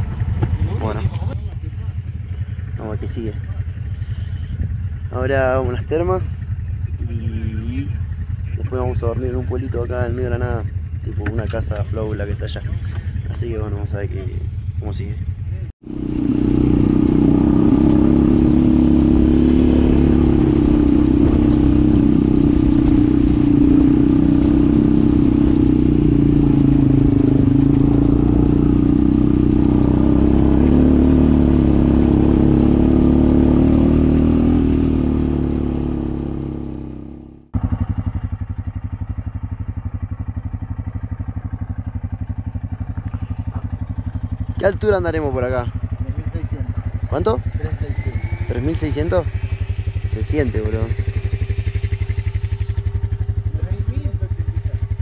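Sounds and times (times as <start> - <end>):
engine idling: 0.0 - 33.3, 33.9 - 55.0
quad bike engine running: 0.0 - 55.0.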